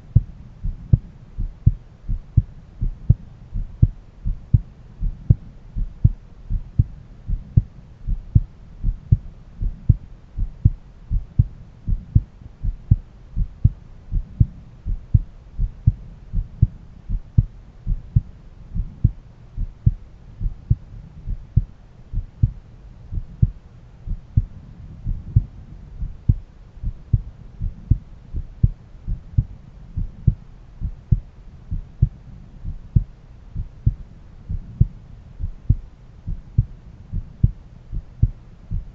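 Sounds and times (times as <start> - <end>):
faint hum: 0.0 - 38.9
heartbeat through stethoscope: 0.0 - 38.9.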